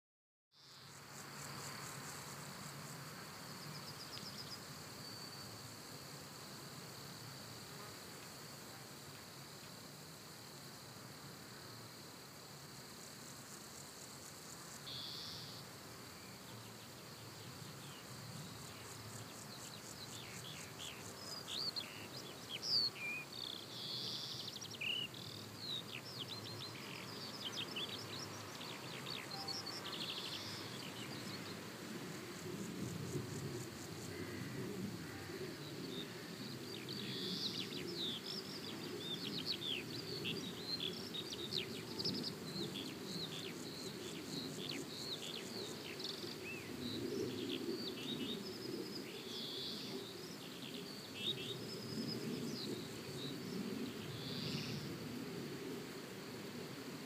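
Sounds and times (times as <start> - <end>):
low outdoor background noise: 0.6 - 57.0.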